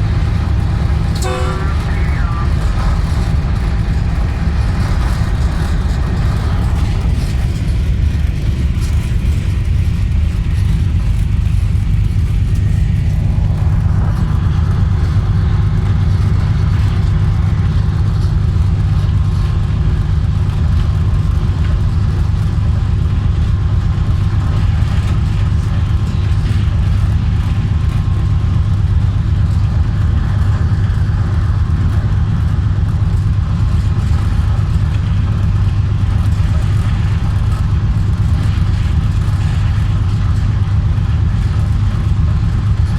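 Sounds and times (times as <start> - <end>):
passenger train rumbling on tracks: 0.0 - 42.9.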